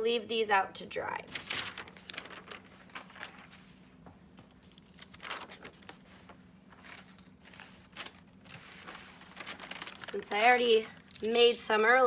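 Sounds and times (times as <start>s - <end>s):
low steady hum: 0.0s - 12.0s
newspaper rustling: 1.3s - 12.0s.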